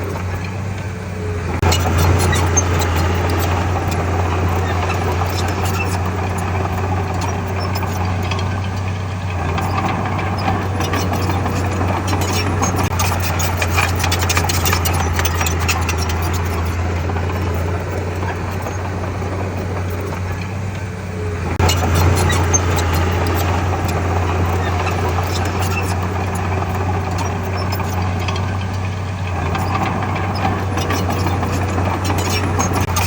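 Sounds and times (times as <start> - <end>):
diesel engine running: 0.0 - 33.0
clattering and knocking: 1.6 - 20.8, 21.6 - 33.0.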